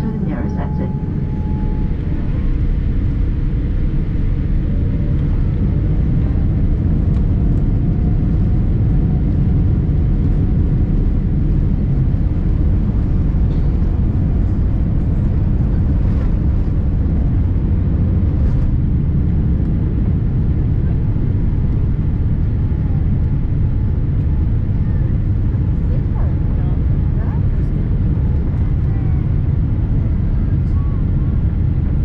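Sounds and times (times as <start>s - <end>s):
airliner takeoff rumble in cabin: 0.0s - 32.0s.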